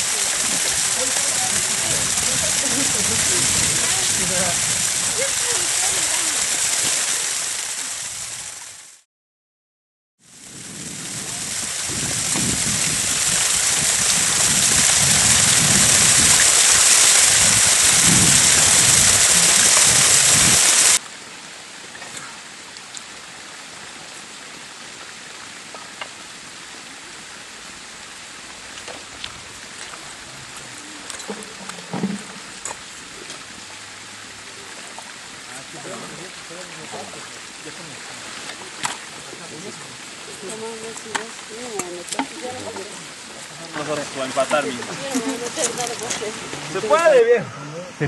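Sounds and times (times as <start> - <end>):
loud rushing water: 0.0 - 9.0, 10.2 - 48.0
shallow stream flowing: 0.0 - 9.0, 10.2 - 48.0.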